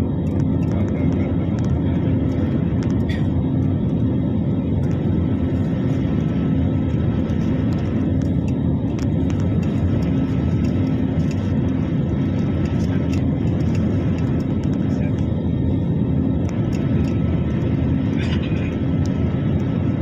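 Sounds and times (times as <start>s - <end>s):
jet engines in cabin: 0.0s - 20.0s
low constant hum: 0.0s - 20.0s.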